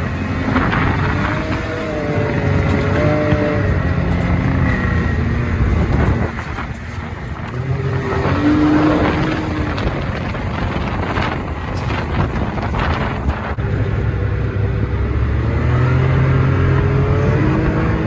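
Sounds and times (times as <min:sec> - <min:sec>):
truck engine running under load: 0:00.0 - 0:18.0
wind on microphone: 0:00.0 - 0:18.0.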